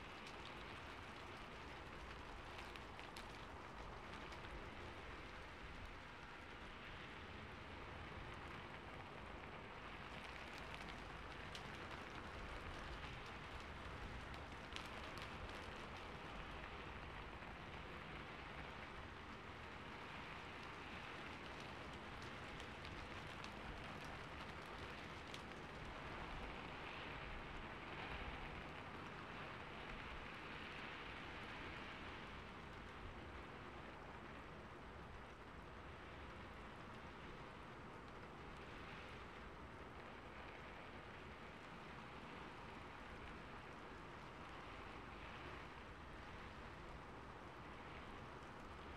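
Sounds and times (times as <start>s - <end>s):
quiet steady rain: 0.0s - 48.9s
sharp raindrop ticks: 0.0s - 48.9s.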